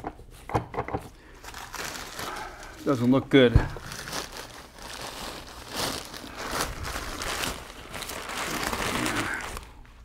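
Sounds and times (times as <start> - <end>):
plastic bag crinkling: 1.3 - 10.0.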